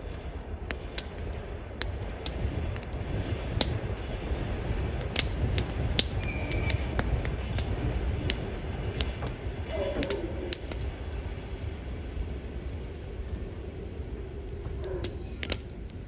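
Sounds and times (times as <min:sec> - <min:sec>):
burning wood popping: 0:00.0 - 0:16.0
steady low rumble: 0:00.0 - 0:16.0
wood fire crackling: 0:00.0 - 0:16.0.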